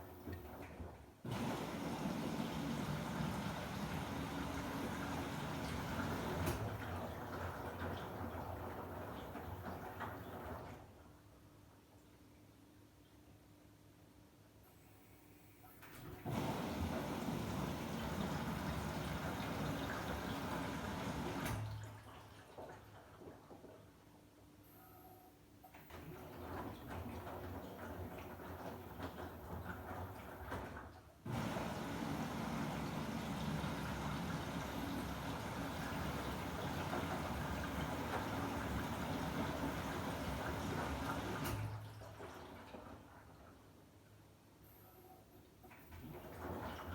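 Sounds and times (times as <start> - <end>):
water rushing in washing machine: 0.0 - 11.4, 15.8 - 24.2, 25.7 - 45.0, 45.6 - 46.9.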